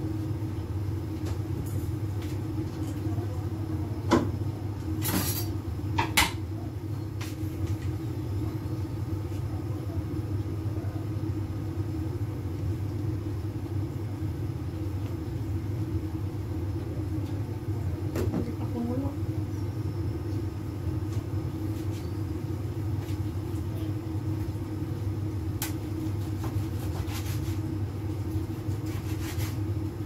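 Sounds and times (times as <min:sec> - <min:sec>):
gas burner rumbling: 0:00.0 - 0:30.0.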